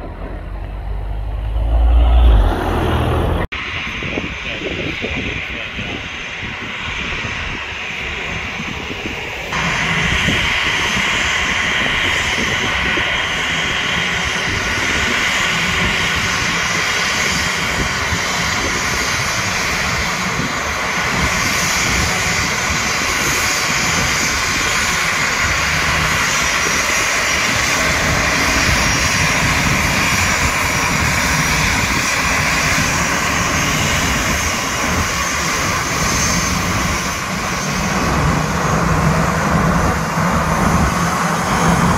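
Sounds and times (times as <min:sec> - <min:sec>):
jet engines whining at taxi: 0:00.0 - 0:41.9.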